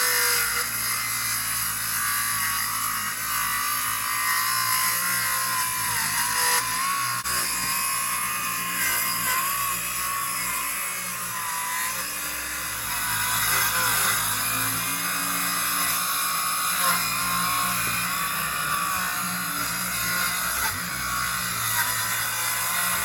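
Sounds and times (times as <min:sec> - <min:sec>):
circular saw cutting plywood: 0:00.0 - 0:23.0.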